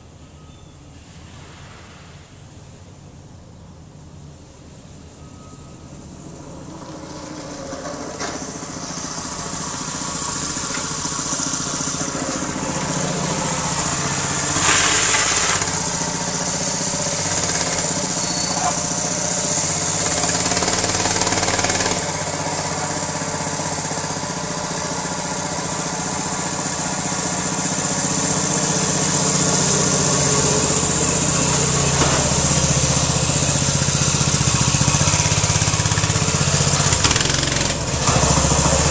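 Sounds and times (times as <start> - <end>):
small engine running: 6.2 - 38.9.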